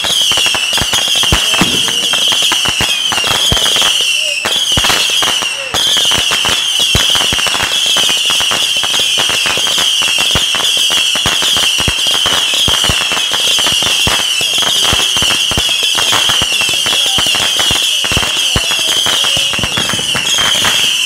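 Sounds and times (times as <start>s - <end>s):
fireworks cracking and popping: 0.0s - 21.0s
high-pitched firework whistle: 0.0s - 21.0s.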